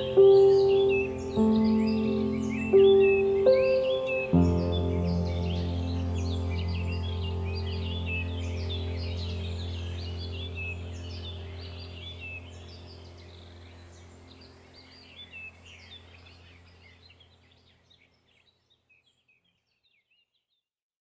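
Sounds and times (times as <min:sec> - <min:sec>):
low hum: 0:00.0 - 0:17.3
small birds chirping: 0:00.0 - 0:20.7.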